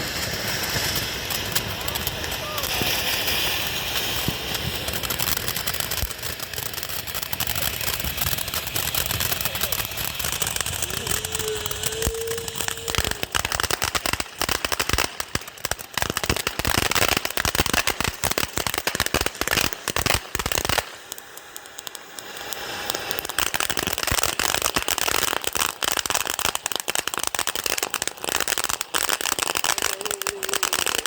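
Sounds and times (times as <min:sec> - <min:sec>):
firecrackers crackling: 0:00.0 - 0:31.0.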